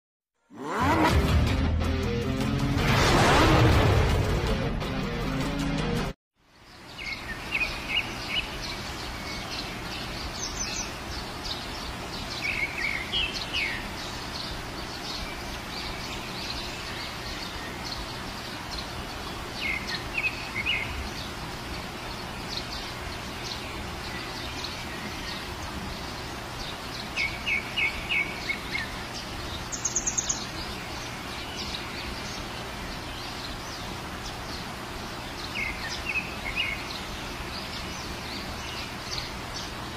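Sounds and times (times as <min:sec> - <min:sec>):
steady rain hiss: 0:06.4 - 0:39.9
small birds chirping: 0:06.5 - 0:39.9.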